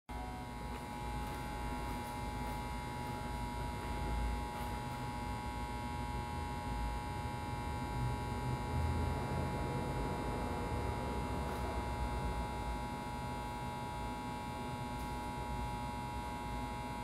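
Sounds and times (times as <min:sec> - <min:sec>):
electrical hum whine: 0:00.1 - 0:17.0.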